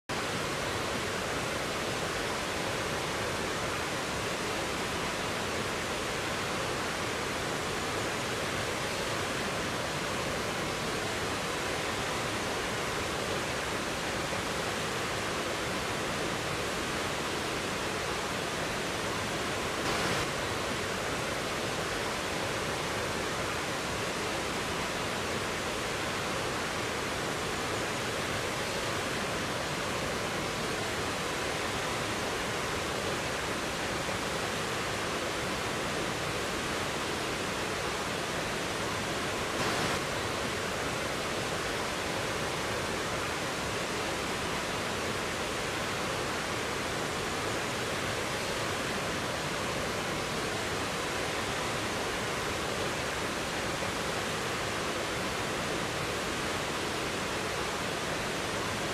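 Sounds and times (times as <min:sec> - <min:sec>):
waterfall rushing: 0:00.1 - 0:58.9.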